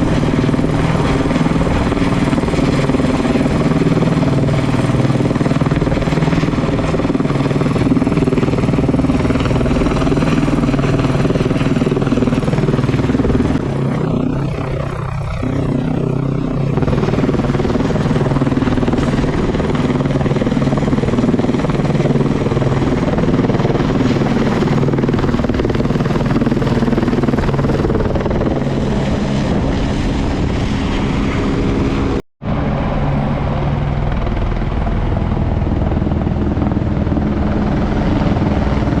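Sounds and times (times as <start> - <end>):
helicopter engine and rotor: 0.0 - 39.0.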